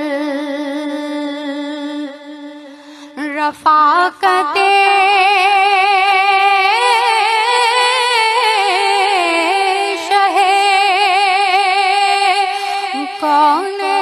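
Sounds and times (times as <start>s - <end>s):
woman singing devotional song: 0.0s - 14.0s.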